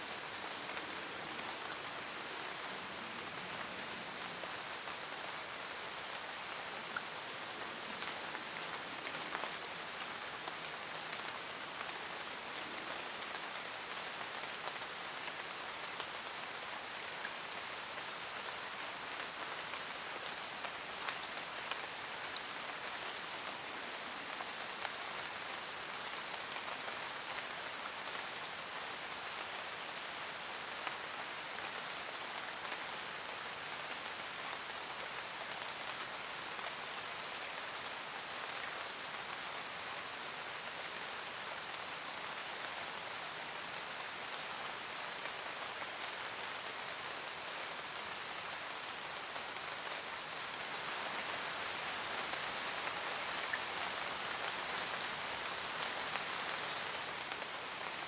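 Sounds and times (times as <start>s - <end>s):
rain falling on forest: 0.0s - 58.0s.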